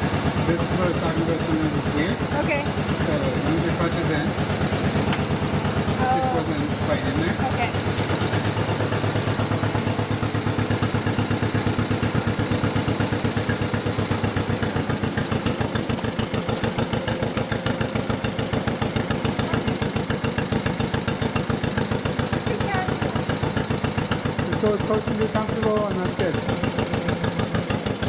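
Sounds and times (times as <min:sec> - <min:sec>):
tractor engine putting: 0:00.0 - 0:28.0.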